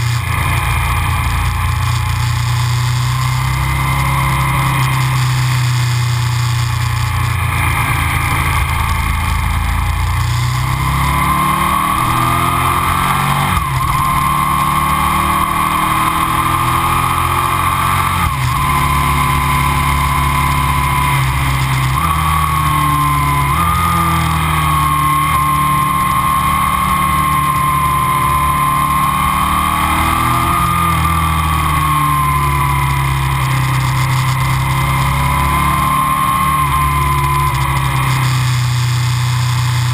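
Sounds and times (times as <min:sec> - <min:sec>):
motorcycle engine revving: 0:00.0 - 0:39.9
thin engine whine: 0:00.0 - 0:39.9.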